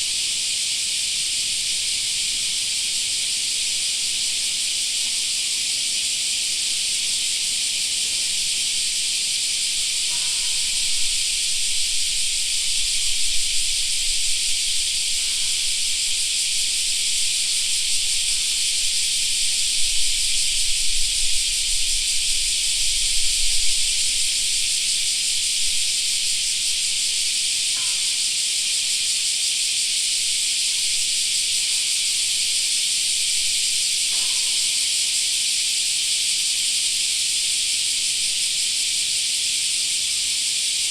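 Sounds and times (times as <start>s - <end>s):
cicada chorus: 0.0s - 40.9s.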